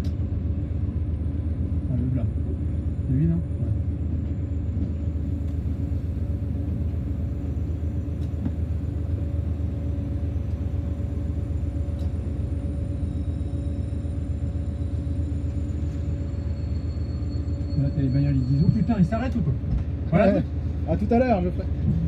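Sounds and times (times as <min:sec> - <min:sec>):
diesel locomotive engine rumbling: 0:00.0 - 0:22.0.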